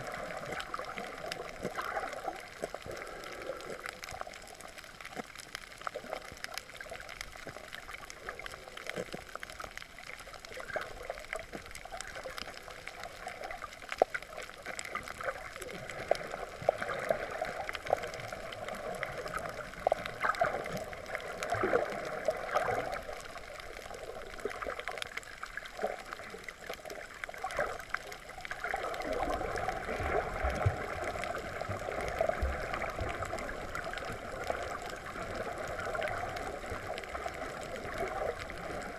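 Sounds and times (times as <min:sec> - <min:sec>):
low underwater rumble: 0:00.0 - 0:38.9
water gurgling underwater: 0:00.0 - 0:38.9.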